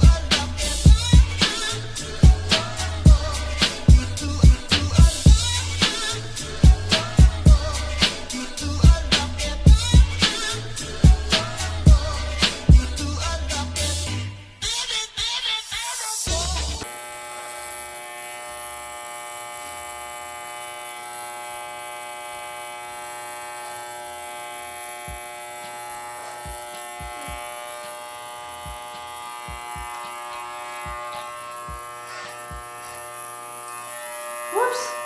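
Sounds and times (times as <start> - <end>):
electric clippers buzzing: 0.0 - 13.4, 16.8 - 35.0.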